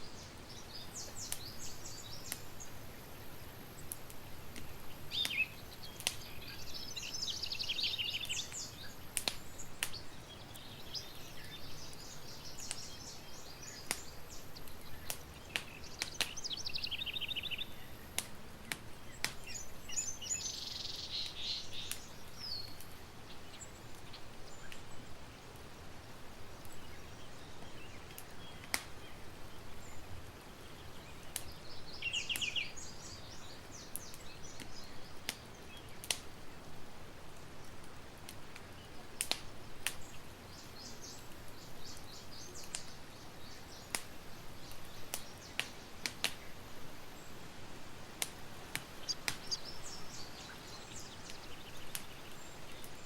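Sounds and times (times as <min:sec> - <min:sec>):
small birds chirping: 0:00.0 - 0:53.0
campfire crackling and popping: 0:00.2 - 0:26.9, 0:27.5 - 0:29.6, 0:30.2 - 0:53.0.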